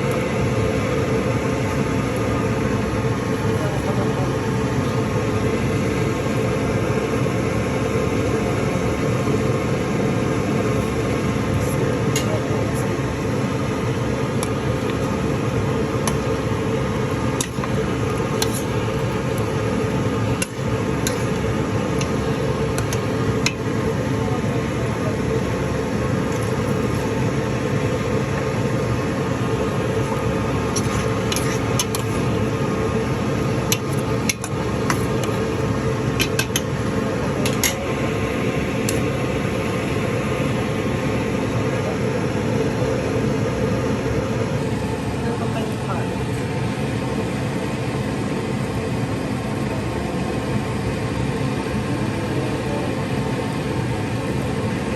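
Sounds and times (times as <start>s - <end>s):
mechanical hum: 0.0s - 54.9s.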